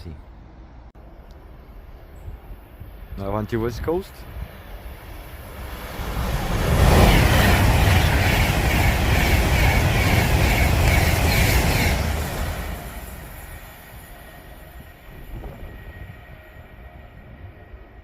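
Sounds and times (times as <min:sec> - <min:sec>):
train rushing past: 0:01.7 - 0:18.0.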